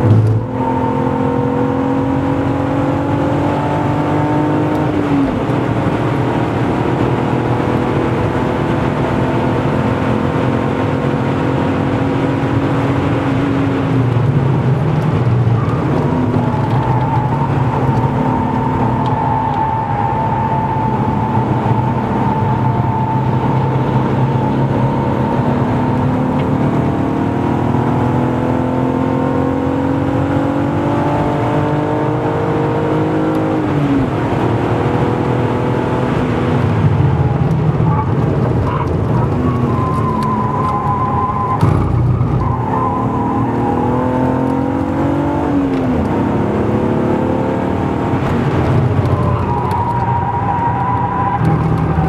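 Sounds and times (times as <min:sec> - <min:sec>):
car engine revving under load: 0:00.0 - 0:52.0.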